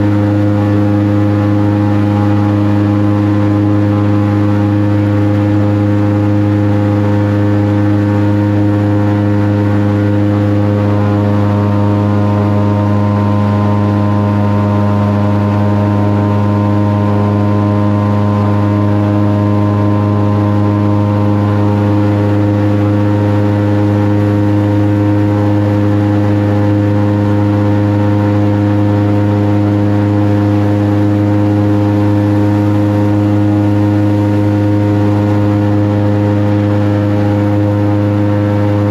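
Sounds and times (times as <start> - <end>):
airboat engine drone: 0.0 - 38.9.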